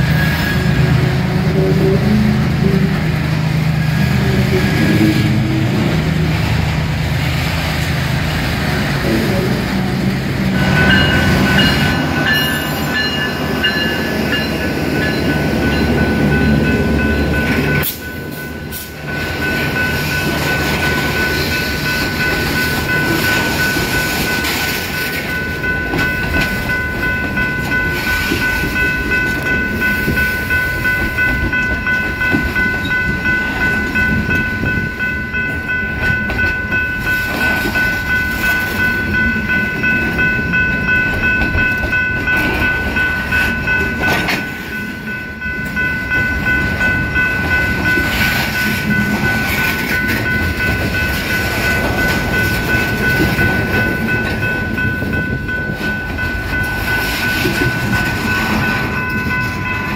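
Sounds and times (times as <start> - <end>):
freight train wheels rumbling: 0.0 - 59.9
high-pitched ringing tone: 10.6 - 59.9.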